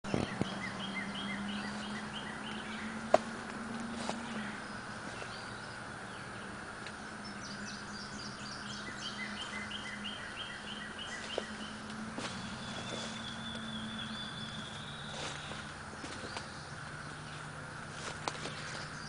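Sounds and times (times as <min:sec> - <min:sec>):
birds chirping: 0:00.0 - 0:19.0
steady low hum: 0:00.1 - 0:19.0.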